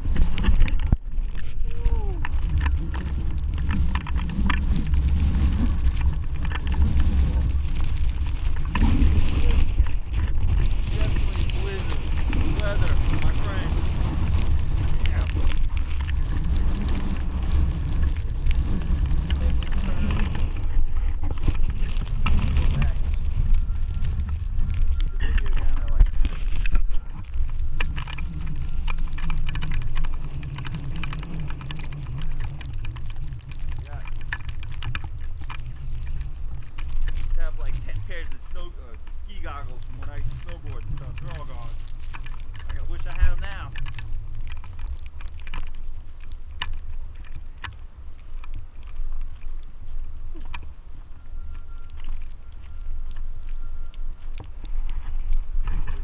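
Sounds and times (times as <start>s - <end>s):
footsteps crunching in snow: 0.0s - 47.1s
wind buffeting microphone: 0.0s - 56.0s.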